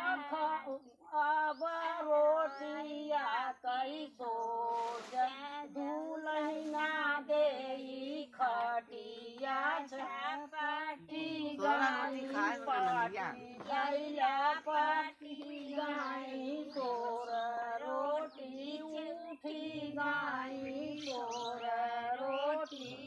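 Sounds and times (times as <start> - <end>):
women singing unaccompanied folk song: 0.0 - 23.0.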